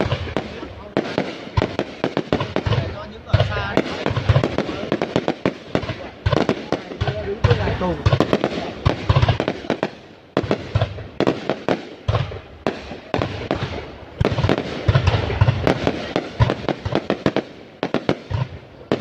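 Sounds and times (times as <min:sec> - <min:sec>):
firework bangs and cracks: 0:00.0 - 0:19.0
firework crackling: 0:00.0 - 0:19.0
firework shells booming: 0:00.0 - 0:19.0.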